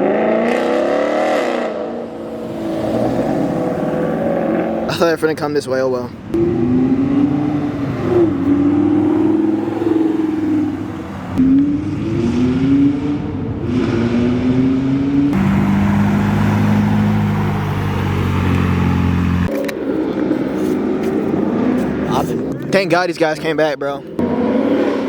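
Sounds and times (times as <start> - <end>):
car engine accelerating: 0.0 - 5.3, 6.3 - 22.0, 24.2 - 25.0.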